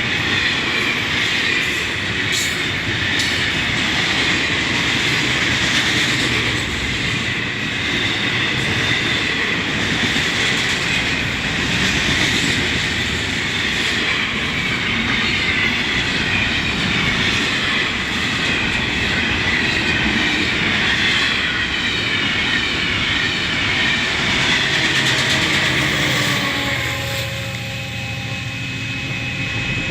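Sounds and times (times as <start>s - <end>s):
steel wheels squealing on rail: 0.0s - 5.2s, 5.8s - 29.9s
freight train cars rolling: 0.0s - 29.9s.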